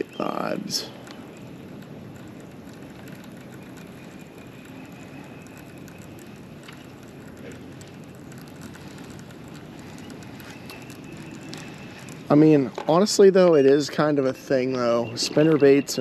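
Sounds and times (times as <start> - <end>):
faint reel clicks: 0.0 - 13.5
fishing reel whirring: 0.0 - 16.0.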